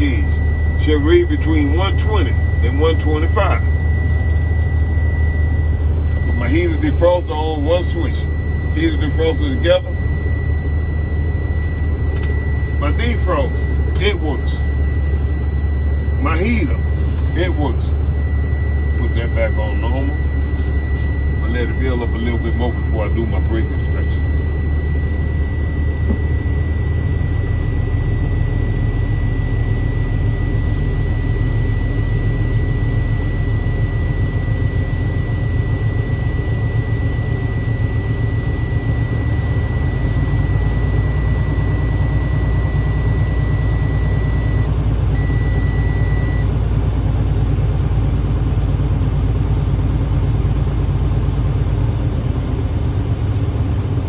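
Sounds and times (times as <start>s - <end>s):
high-pitched warning tone: 0.0s - 46.5s
diesel truck engine idling: 0.0s - 54.0s.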